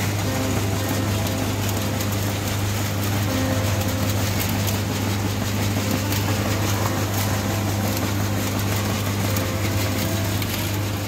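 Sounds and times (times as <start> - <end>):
beans rattling from metal chutes: 0.0 - 11.0
machine humming: 0.0 - 11.0.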